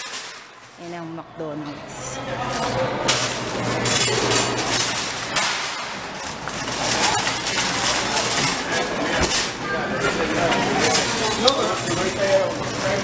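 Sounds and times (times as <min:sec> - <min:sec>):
clinking and rattling: 0:02.5 - 0:13.0.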